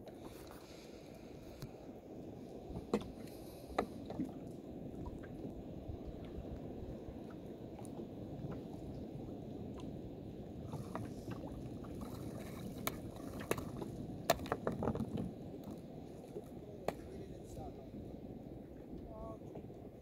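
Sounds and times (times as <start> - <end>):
water lapping against boat hull: 0.0 - 1.8, 2.4 - 20.0.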